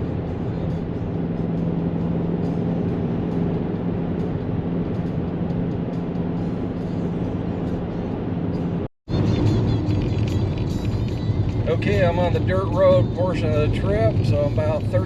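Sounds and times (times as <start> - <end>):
diesel engine drone: 0.0 - 15.0
road noise inside car: 0.0 - 15.0.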